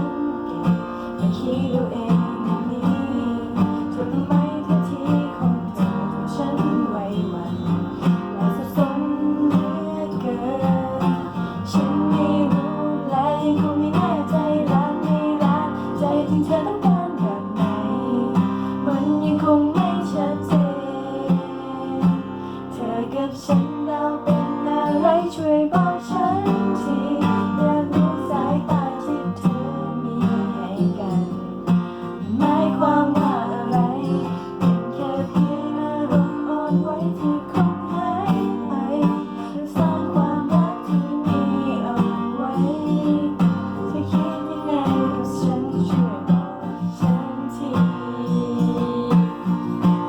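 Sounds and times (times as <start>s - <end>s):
acoustic guitar strumming: 0.0s - 50.0s.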